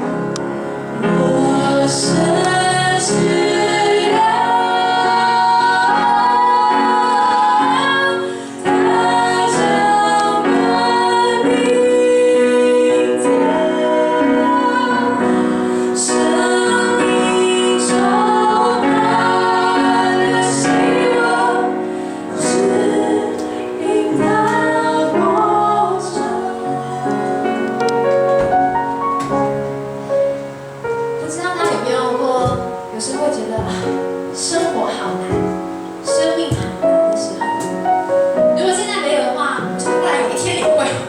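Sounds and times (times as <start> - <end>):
choir-like voices: 0.0 - 41.0
piano accompaniment: 0.0 - 41.0
woman singing: 1.0 - 27.7, 31.2 - 37.5, 38.6 - 41.0.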